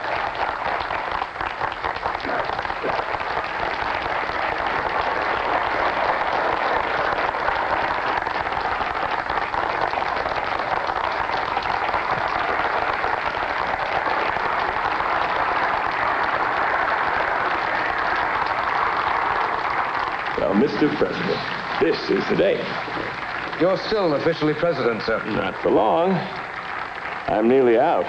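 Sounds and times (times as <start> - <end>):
crowd applauding: 0.0 - 28.0.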